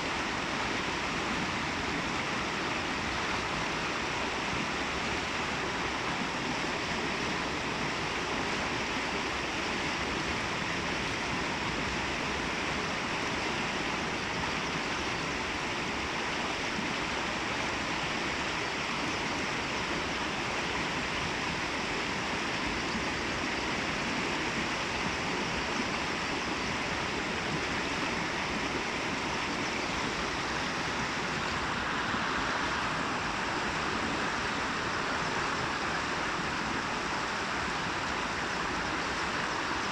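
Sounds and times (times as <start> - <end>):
babbling brook: 0.0 - 39.9.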